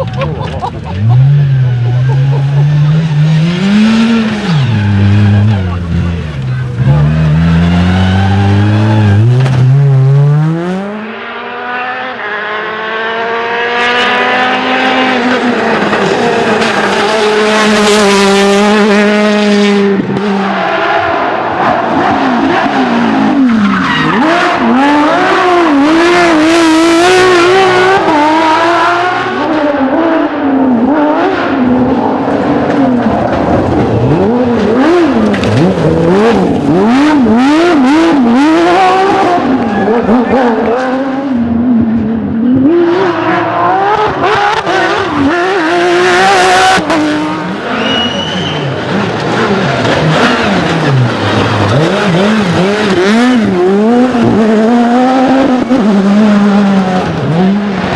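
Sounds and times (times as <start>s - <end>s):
rally car engines revving: 0.0s - 57.9s
tyres skidding: 0.0s - 57.9s.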